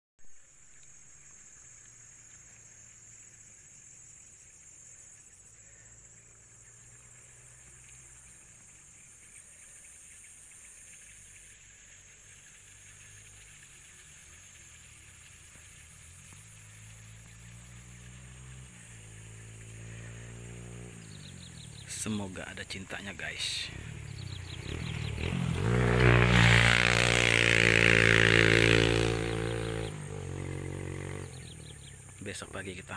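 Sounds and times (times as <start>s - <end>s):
insects trilling: 0.2s - 32.9s.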